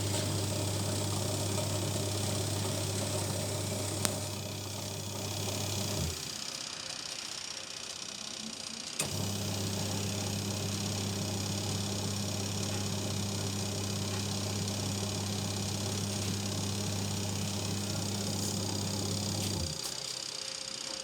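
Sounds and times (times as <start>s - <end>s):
washing machine motor humming: 0.0s - 6.8s, 9.0s - 20.4s.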